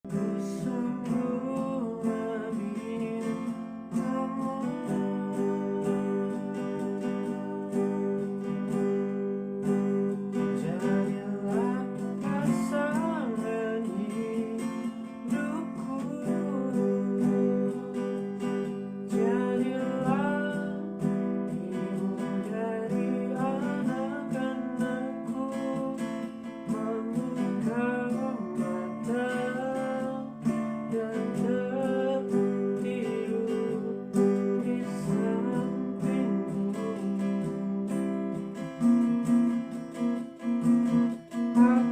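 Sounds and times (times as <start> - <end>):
sliding guitar melody: 0.0 - 41.9.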